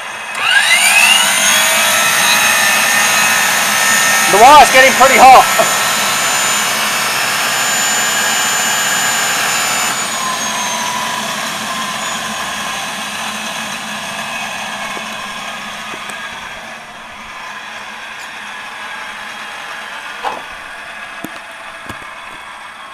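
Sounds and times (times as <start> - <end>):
turbine high whine: 0.0 - 22.9.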